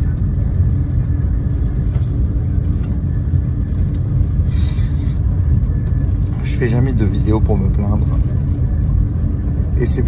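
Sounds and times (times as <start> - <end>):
constant hum: 0.0 - 10.0
train carriage rumble: 0.0 - 10.0.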